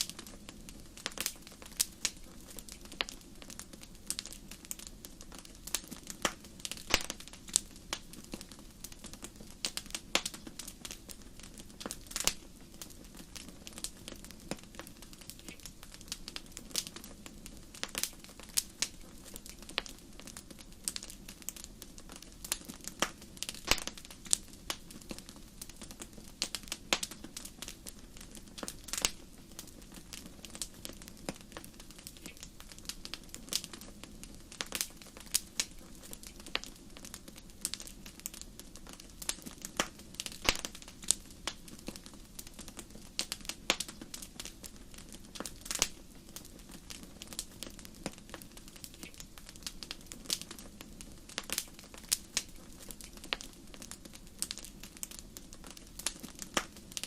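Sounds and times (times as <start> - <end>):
flame hissing: 0.0 - 57.0
wood fire crackling: 0.0 - 57.0.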